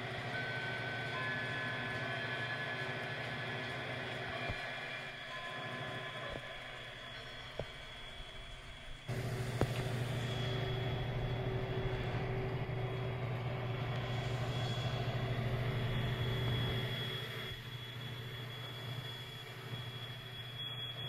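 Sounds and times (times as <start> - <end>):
faint whine: 0.0 - 21.0
small motor humming: 0.0 - 21.0.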